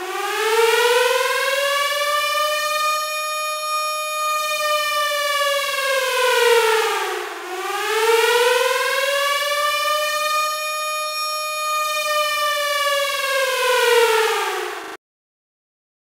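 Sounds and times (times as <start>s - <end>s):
air-raid siren wailing: 0.0s - 15.0s.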